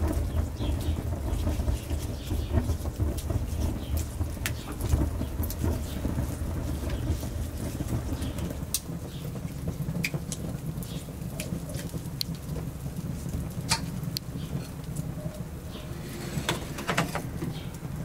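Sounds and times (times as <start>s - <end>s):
low steady rumble: 0.0s - 11.3s, 12.0s - 18.0s
sharp pops of fire: 0.0s - 15.8s
wood fire crackling: 0.0s - 18.0s.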